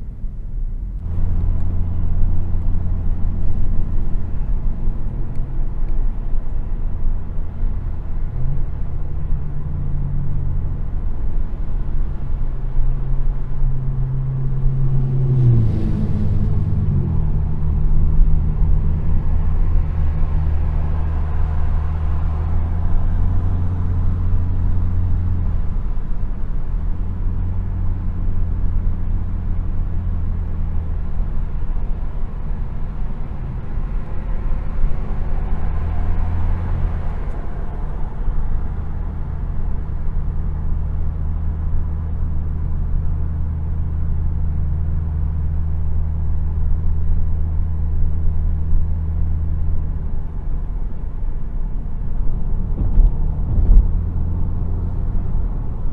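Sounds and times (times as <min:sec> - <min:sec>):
car engine running at low revs: 0:00.0 - 0:55.9.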